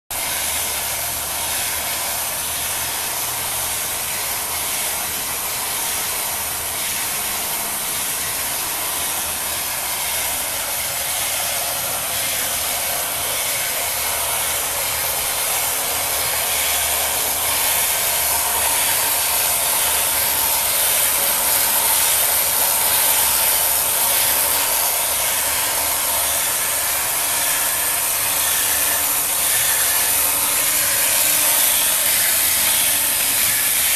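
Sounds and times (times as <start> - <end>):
electric motors whirring: 0.2 - 33.9.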